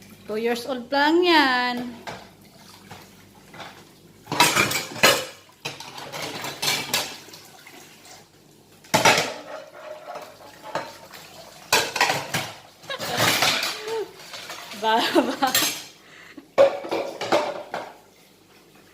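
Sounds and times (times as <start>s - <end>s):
dishes clattering in a sink: 1.7s - 8.2s, 8.8s - 18.1s.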